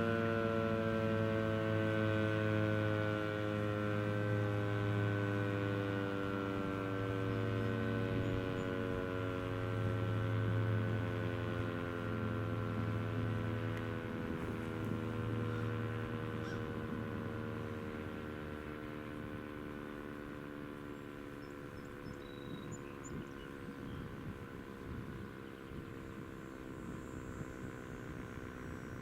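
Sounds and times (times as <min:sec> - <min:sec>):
low hum: 0:00.0 - 0:29.0
warning siren winding down: 0:00.0 - 0:29.0.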